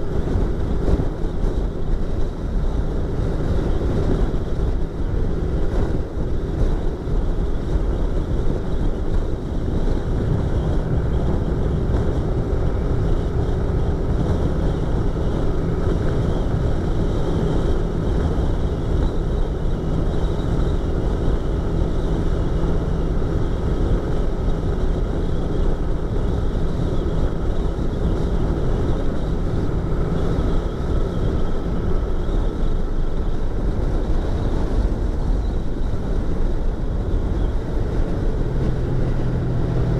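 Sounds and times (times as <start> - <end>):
motorcycle engine cruising: 0.0 - 39.9
wind rushing over helmet: 0.0 - 39.9.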